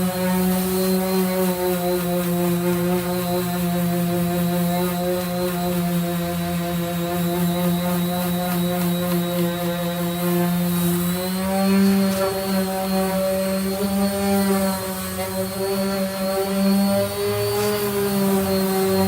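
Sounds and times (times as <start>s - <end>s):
power sander running: 0.0s - 19.0s.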